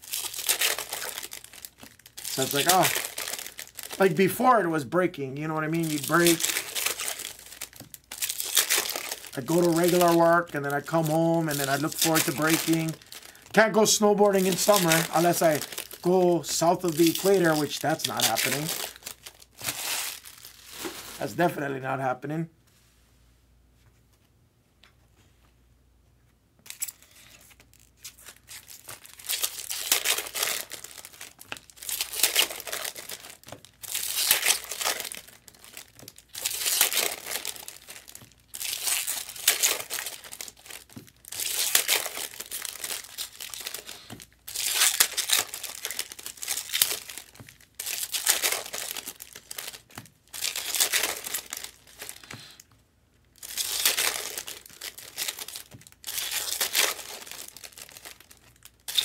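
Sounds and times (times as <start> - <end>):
wrappers crinkling: 0.0 - 21.6, 26.6 - 59.0.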